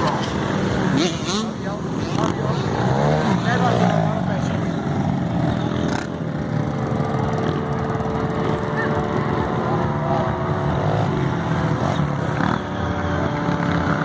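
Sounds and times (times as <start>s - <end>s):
dirt bike engines running: 0.0s - 14.0s.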